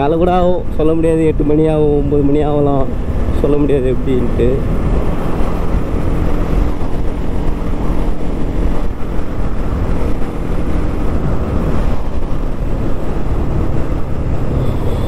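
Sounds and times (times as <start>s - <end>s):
motorcycle engine cruising: 0.0s - 15.0s
wind rushing over microphone: 0.0s - 15.0s.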